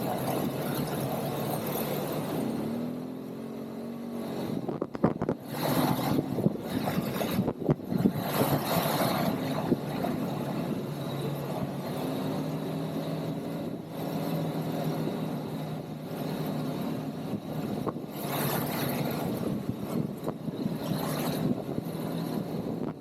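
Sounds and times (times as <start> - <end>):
quad bike engine running: 0.0 - 20.8.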